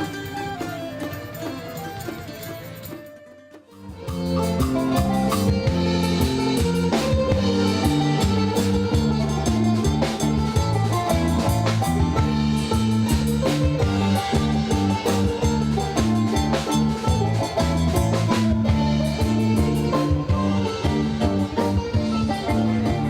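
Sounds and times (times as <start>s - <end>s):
guitar bass and drum music: 0.0s - 23.0s.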